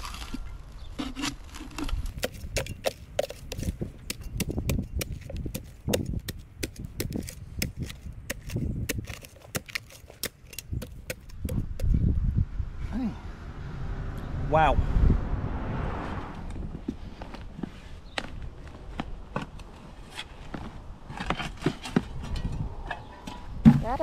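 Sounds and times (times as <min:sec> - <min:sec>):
shovel scraping and chopping dirt: 0:00.0 - 0:12.0, 0:16.8 - 0:24.0.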